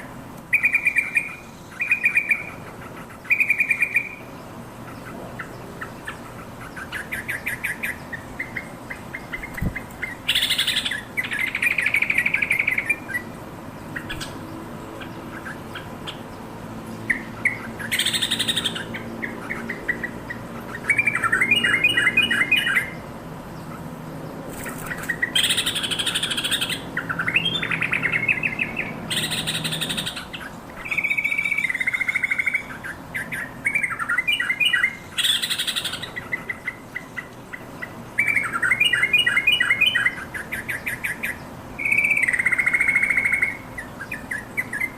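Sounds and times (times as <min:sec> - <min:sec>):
bulbul chattering calls: 0:00.0 - 0:44.9.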